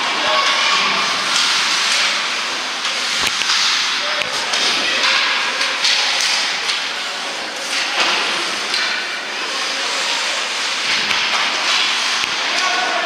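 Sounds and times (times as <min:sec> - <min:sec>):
hockey sticks and puck clacking: 0:00.3 - 0:09.4, 0:10.0 - 0:13.0.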